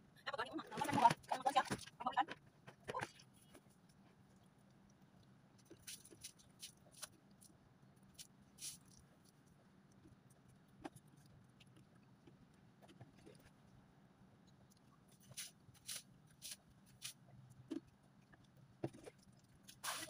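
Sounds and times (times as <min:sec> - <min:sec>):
faint clicks and scrapes: 0:00.6 - 0:20.0.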